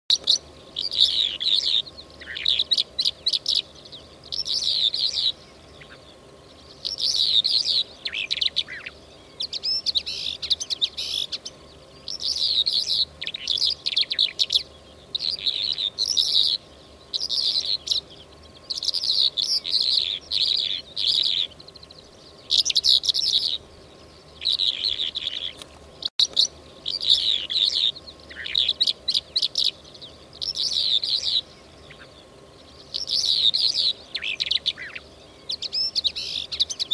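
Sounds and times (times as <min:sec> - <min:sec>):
lark chirps and trills: 0:00.1 - 0:36.9.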